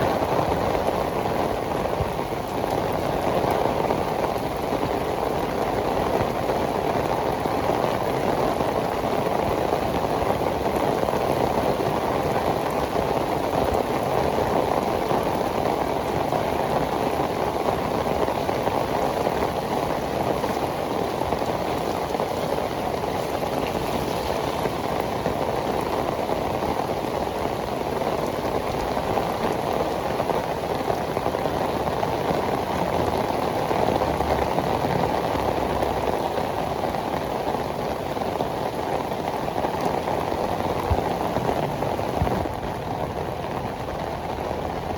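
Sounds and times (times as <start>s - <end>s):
heavy rain on pavement: 0.0s - 44.9s.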